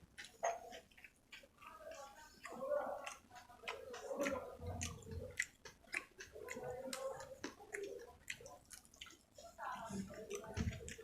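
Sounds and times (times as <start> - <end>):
chewing with wet mouth smacks: 0.0 - 11.0.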